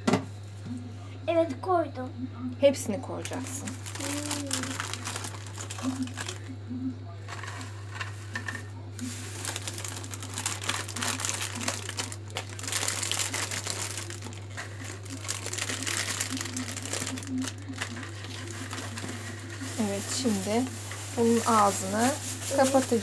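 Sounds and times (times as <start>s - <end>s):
plastic bag crinkling: 3.1s - 6.5s, 7.3s - 23.0s.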